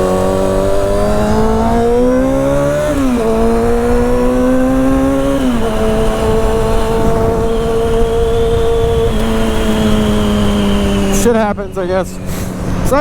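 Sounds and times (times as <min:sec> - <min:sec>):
motorcycle engine accelerating: 0:00.0 - 0:13.0
wind noise on microphone: 0:00.0 - 0:13.0.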